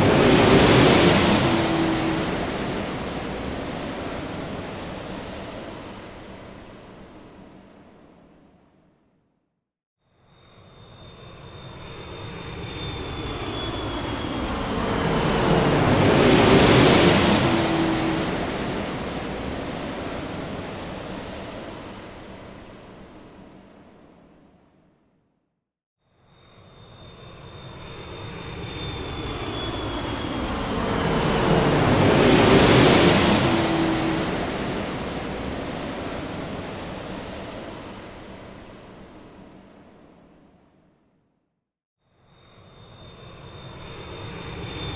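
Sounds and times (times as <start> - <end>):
jet engine noise: 0.0 - 8.6, 10.5 - 24.6, 26.5 - 40.8, 42.5 - 44.9.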